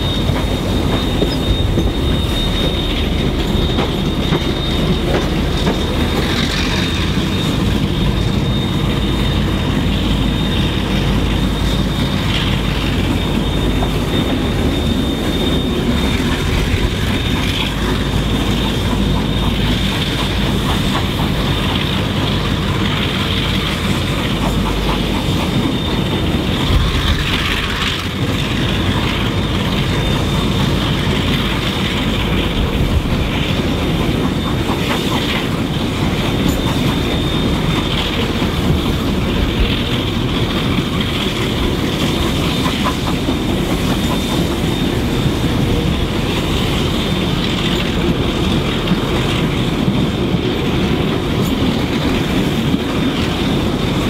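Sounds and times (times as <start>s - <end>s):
train wheels running on rails: 0.0s - 54.0s
wheels clicking over rail joints: 0.0s - 54.0s.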